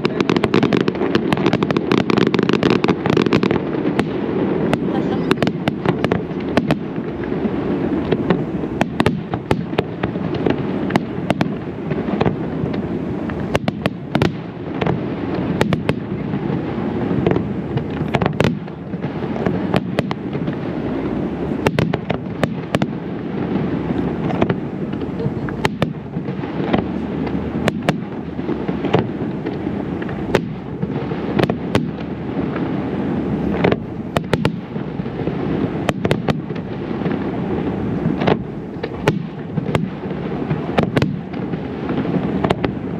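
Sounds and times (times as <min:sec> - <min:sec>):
fireworks bursting with sharp bangs: 0:00.0 - 0:42.9
rumble of explosions: 0:00.0 - 0:42.9.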